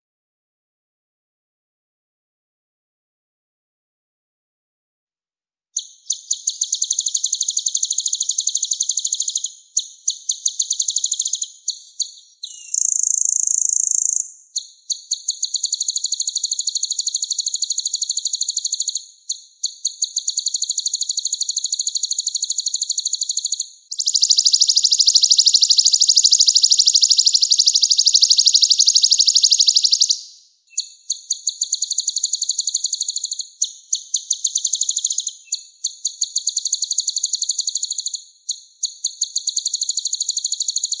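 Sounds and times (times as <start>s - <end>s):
songbird singing rolling trills: 5.8s - 41.0s.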